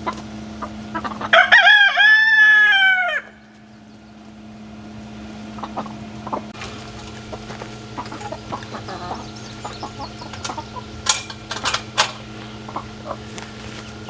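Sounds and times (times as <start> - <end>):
chickens clucking: 0.0 - 3.0, 5.4 - 14.0.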